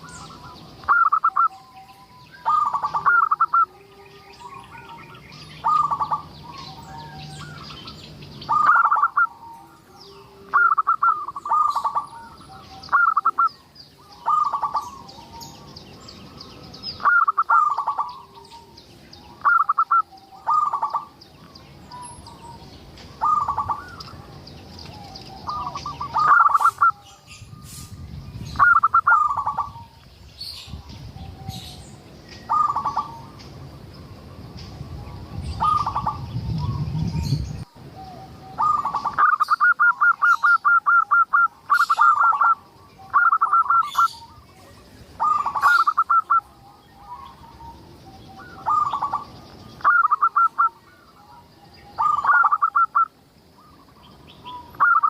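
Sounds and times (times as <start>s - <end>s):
dove cooing: 0.0s - 29.9s, 32.4s - 33.4s, 34.2s - 55.0s.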